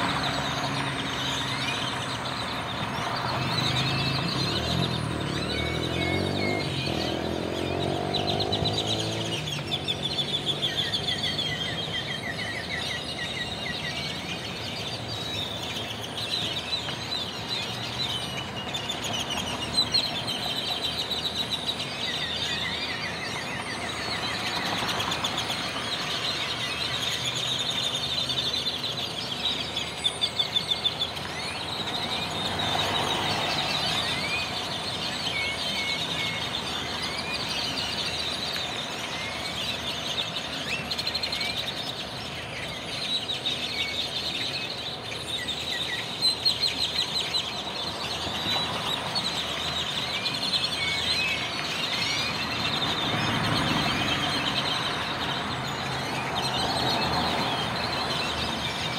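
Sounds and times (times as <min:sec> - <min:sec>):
flock of birds chattering: 0:00.0 - 0:58.9.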